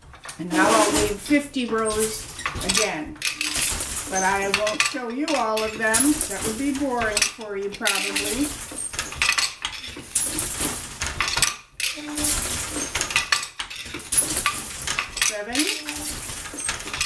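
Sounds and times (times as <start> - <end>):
loom knocking and clattering: 0.0 - 17.0.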